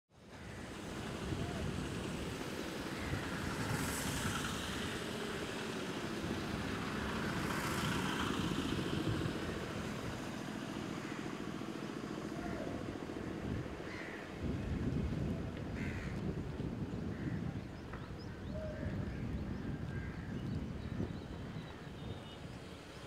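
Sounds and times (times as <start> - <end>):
wind: 0.1 - 23.0.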